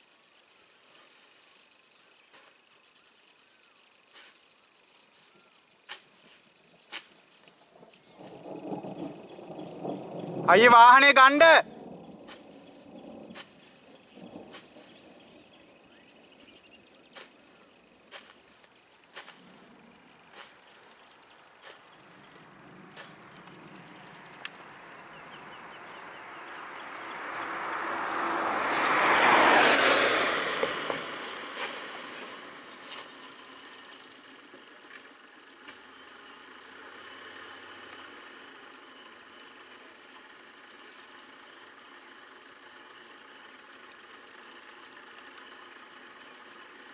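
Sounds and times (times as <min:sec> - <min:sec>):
insects chirping: 0:00.0 - 0:46.9
vehicle passing: 0:07.7 - 0:46.9.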